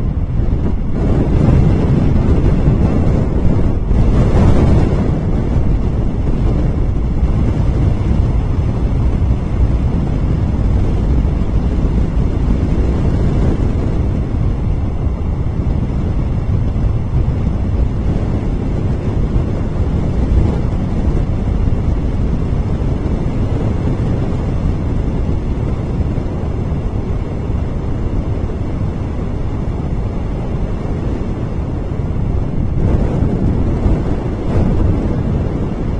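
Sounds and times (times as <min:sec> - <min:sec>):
wind blowing across microphone: 0:00.0 - 0:35.9.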